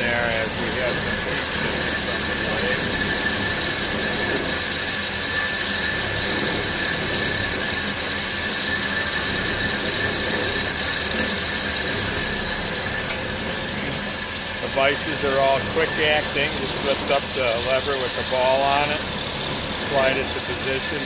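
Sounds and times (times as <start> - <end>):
bandsaw cutting with whine: 0.0 - 21.0.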